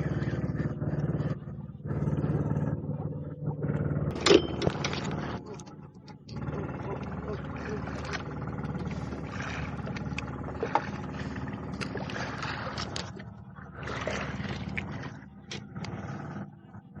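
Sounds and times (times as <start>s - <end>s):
boat engine running: 0.0s - 17.0s
water splashing against hull: 0.0s - 17.0s.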